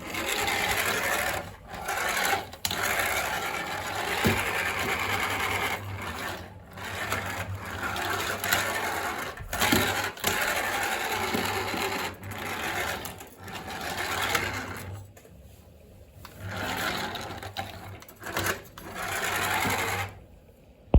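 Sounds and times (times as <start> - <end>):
toy car motor whirring: 0.0 - 14.9, 16.4 - 20.2.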